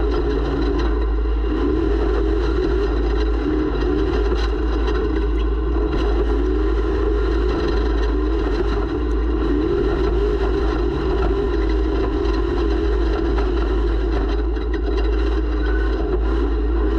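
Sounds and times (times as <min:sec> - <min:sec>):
wind rumble on microphone: 0:00.0 - 0:16.9.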